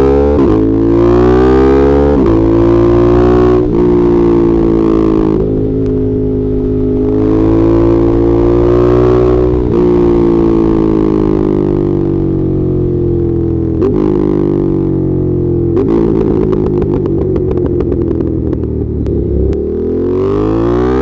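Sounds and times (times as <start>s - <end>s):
motorcycle engine shifting gears: 0.0s - 21.0s.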